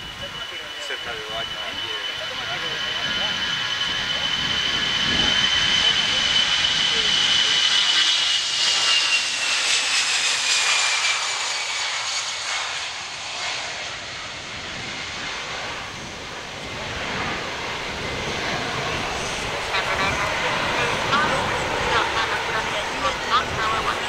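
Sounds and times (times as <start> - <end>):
jet engines at takeoff power: 0.0 - 24.0.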